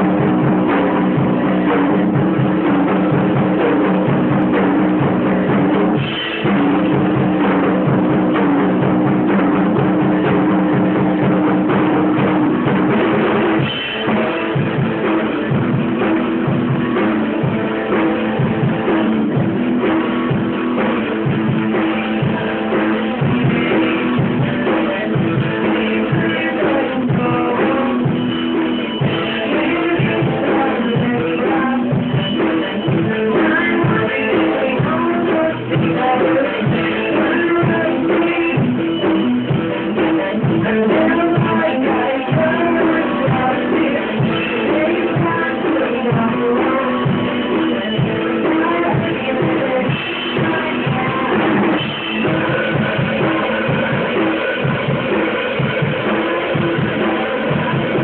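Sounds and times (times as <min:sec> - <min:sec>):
drum kit beat: 0:00.0 - 0:58.0
electric guitar chords: 0:00.0 - 0:58.0.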